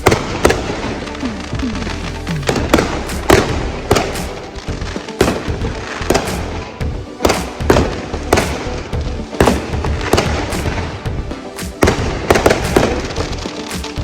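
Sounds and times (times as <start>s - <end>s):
fireworks bangs and cracks: 0.0s - 14.0s.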